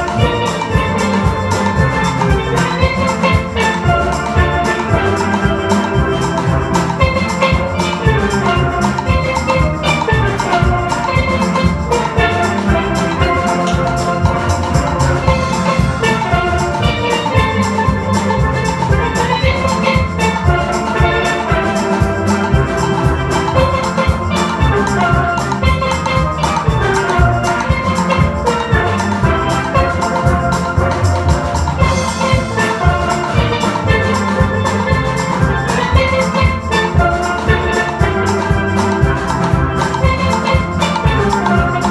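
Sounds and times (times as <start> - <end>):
steady drum beat: 0.0 - 41.9
steel pans playing melody: 0.0 - 41.9.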